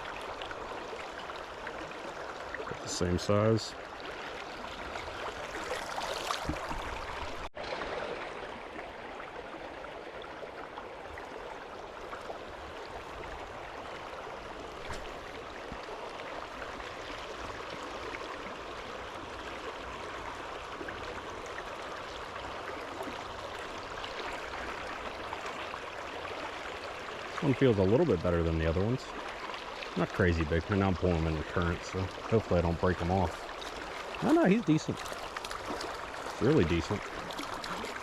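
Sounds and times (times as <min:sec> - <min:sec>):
creek water rushing: 0:00.0 - 0:38.0.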